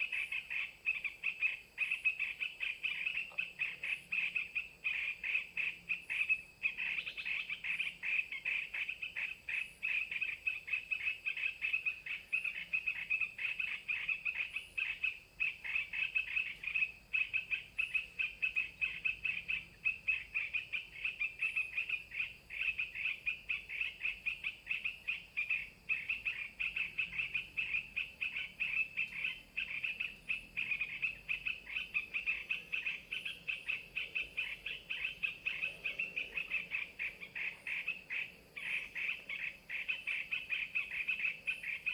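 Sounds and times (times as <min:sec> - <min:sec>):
bird chattering chirps: 0:00.0 - 0:41.9.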